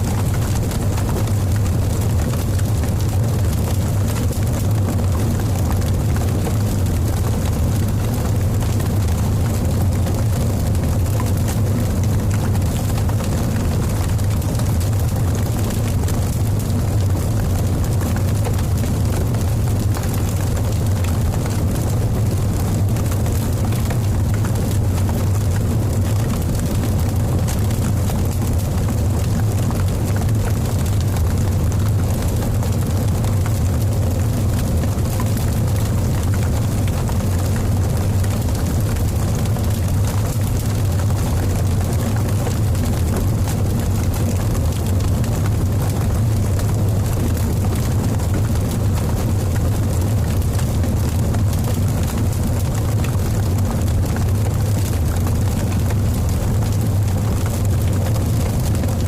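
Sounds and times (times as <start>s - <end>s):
large fire burning: 0.0s - 59.0s.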